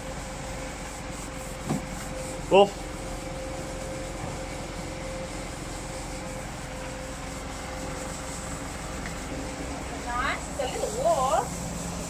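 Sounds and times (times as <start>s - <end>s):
pump machine hum: 0.0s - 12.0s.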